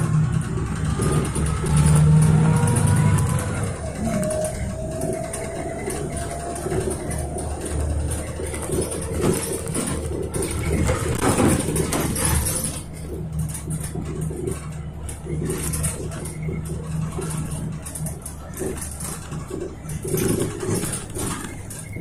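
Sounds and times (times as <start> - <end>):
bus engine rumble: 0.0 - 22.0
knocks and rattles: 0.0 - 22.0.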